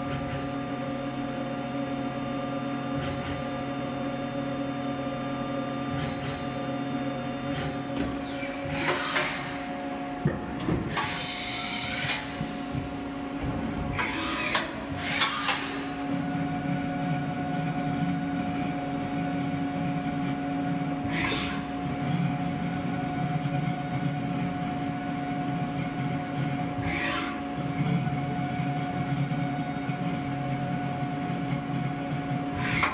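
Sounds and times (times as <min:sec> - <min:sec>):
milling machine whine: 0:00.0 - 0:32.9.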